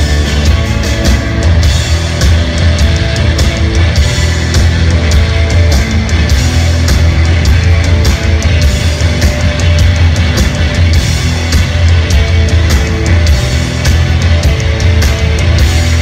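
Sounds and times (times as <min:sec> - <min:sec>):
rock band playing loudly: 0:00.0 - 0:16.0.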